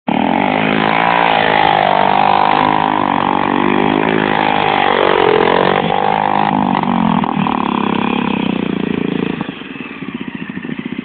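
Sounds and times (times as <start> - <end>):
motorcycle engine revving: 0.1 - 11.0.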